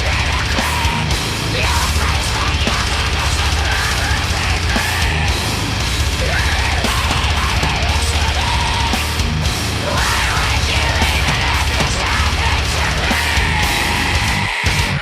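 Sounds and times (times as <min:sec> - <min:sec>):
fast drum beat: 0:00.0 - 0:15.0
heavy metal music: 0:00.0 - 0:15.0.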